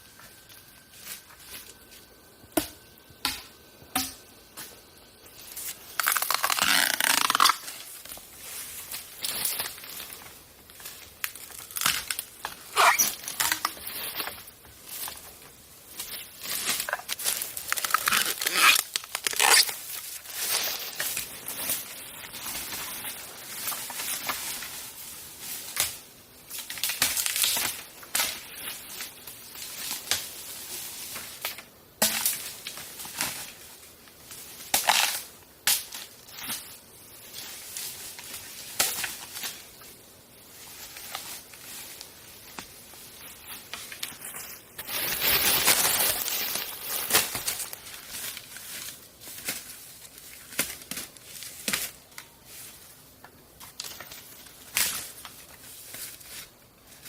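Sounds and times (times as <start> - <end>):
dry plants crunching and crackling: 4.9 - 57.0.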